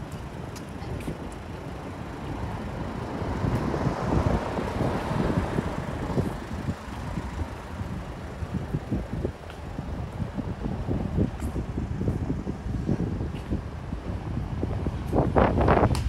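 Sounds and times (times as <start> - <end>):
street traffic noise: 0.0 - 16.0
wind buffeting microphone: 0.0 - 16.0.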